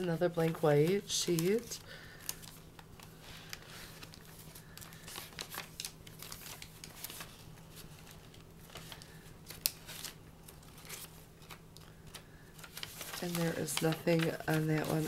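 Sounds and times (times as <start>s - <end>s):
paper pages rustling: 0.0s - 15.0s.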